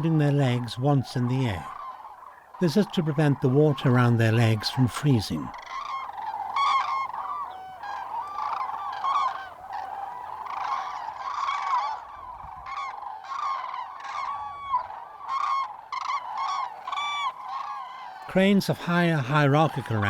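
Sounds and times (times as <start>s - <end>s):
cranes trumpeting calls: 0.0s - 20.0s.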